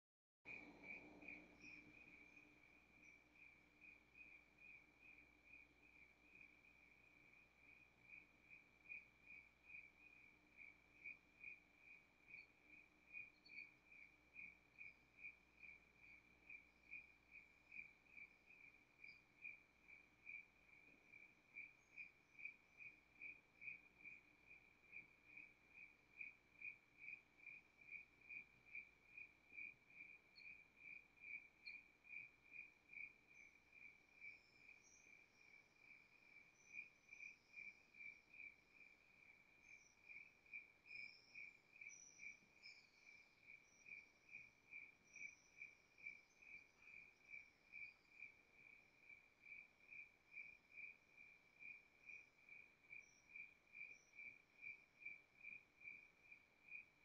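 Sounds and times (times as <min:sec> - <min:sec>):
cricket chirping: 0:00.5 - 0:57.0.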